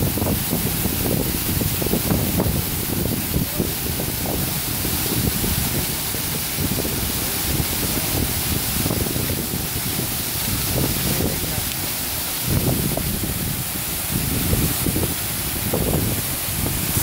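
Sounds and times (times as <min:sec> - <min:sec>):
waterfall splashing over rocks: 0:00.0 - 0:17.0.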